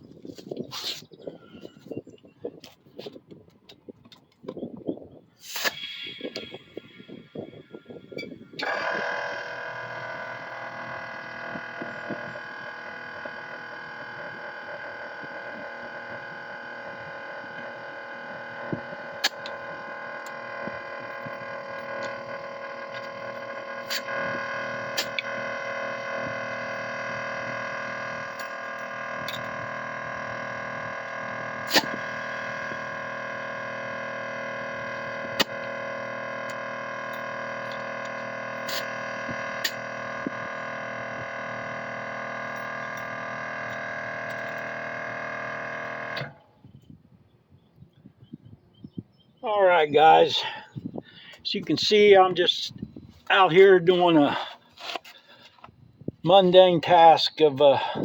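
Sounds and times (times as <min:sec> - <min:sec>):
air compressor whining: 0:00.0 - 0:58.0.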